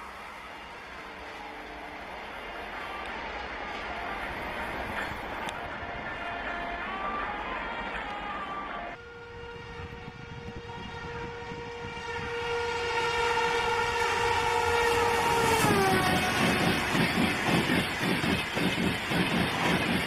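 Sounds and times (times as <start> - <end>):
train horn long blast: 0.0 - 17.4
rumble of passing train coaches: 0.0 - 20.0.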